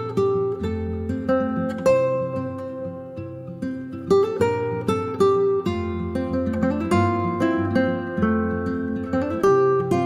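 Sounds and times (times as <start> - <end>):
acoustic guitar plucking: 0.0 - 10.0.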